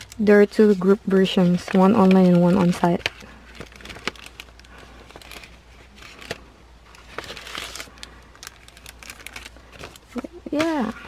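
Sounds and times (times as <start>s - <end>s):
packaging crinkling: 1.2s - 11.0s.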